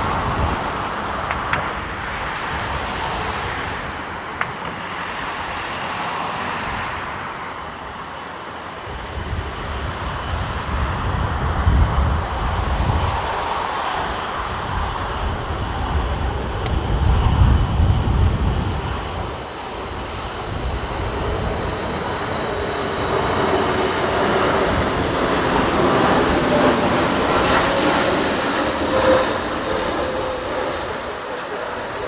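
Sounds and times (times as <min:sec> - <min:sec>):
wind rumble on microphone: 0:00.0 - 0:07.9, 0:08.7 - 0:32.0
jet engines roaring overhead: 0:00.0 - 0:32.0.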